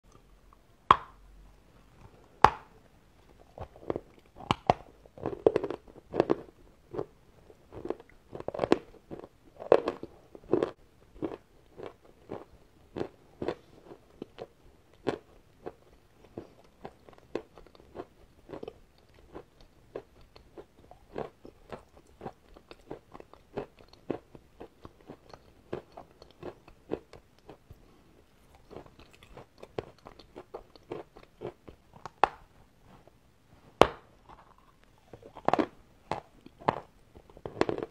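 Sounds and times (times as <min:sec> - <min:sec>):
crunchy chewing: 0:02.0 - 0:33.1, 0:34.2 - 0:37.9.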